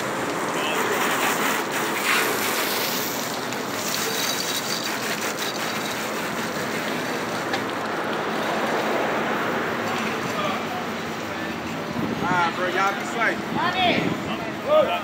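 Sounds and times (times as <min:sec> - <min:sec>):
hose water spraying on car: 0:00.0 - 0:14.6.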